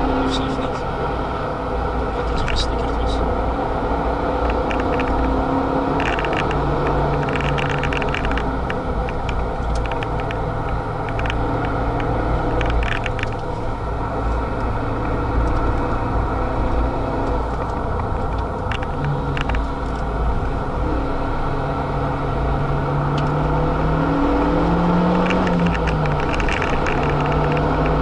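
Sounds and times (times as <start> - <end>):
car engine revving: 0.0 - 28.0
road and tyre rumble: 0.0 - 28.0.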